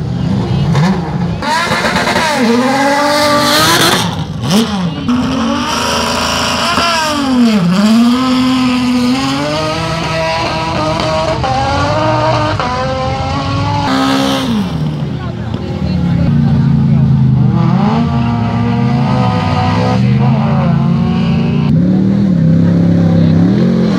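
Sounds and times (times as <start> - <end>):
race car engine revving: 0.0 - 23.9.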